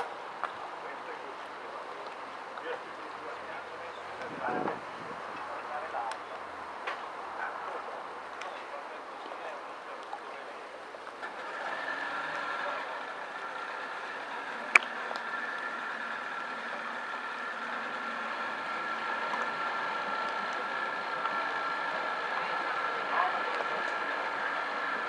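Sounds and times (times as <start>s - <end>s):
distant outboard engine whine: 0.0s - 25.0s.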